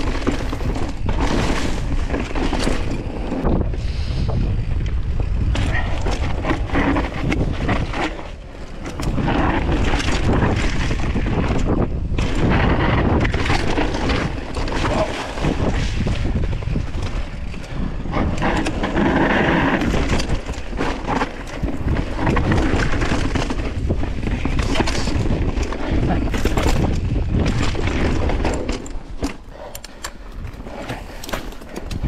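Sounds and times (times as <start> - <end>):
bike rattling over bumps: 0.0 - 32.0
knobby tyres rolling: 0.0 - 32.0
wind on microphone: 0.0 - 32.0.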